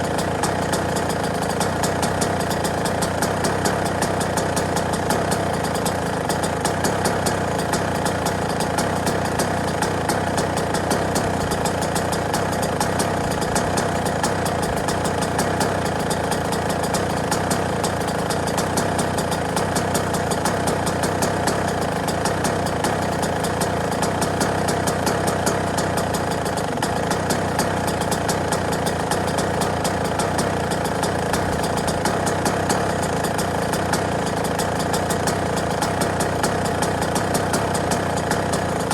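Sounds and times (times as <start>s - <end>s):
two-stroke engine idling: 0.0s - 38.9s.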